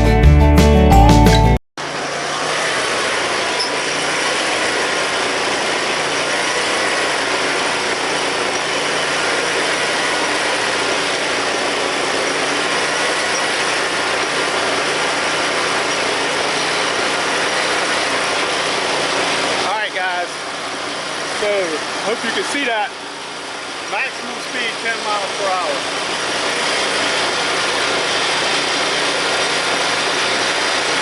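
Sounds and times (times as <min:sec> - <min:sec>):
riding mower engine running: 0:00.0 - 0:31.0.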